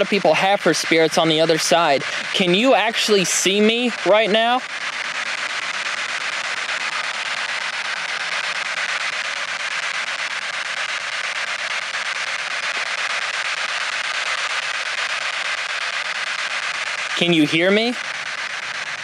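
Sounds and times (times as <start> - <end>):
chopped radio static hiss: 0.0 - 19.0.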